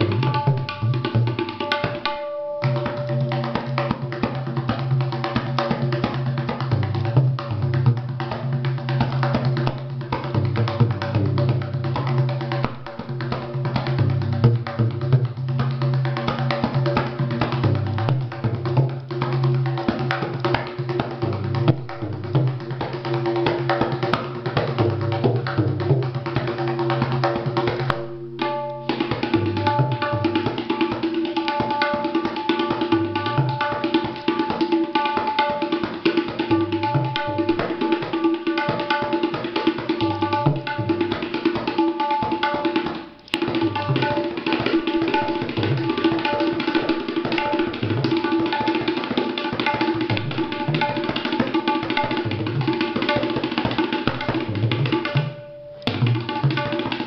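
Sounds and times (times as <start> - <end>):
fast tabla drumming: 0.0 - 57.0.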